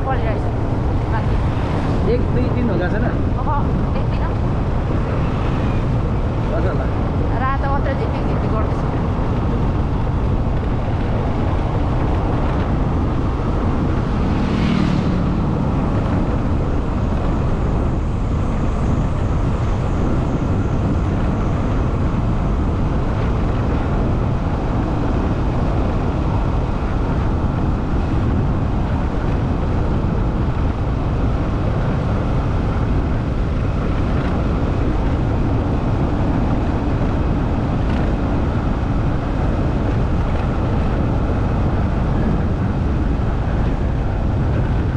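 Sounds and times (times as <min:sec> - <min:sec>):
vehicle road and engine noise: 0:00.0 - 0:44.9.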